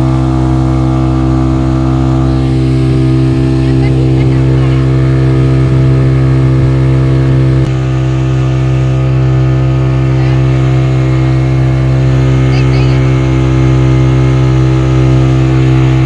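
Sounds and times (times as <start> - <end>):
speedboat engine running: 0.0 - 16.0.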